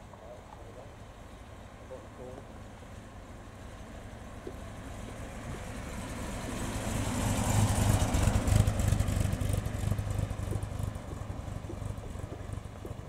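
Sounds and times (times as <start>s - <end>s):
car engine and exhaust passing: 0.9s - 13.0s.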